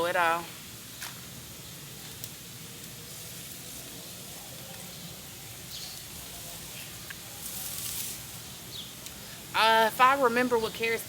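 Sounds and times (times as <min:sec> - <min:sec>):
garden watering spray hissing: 0:00.0 - 0:11.0.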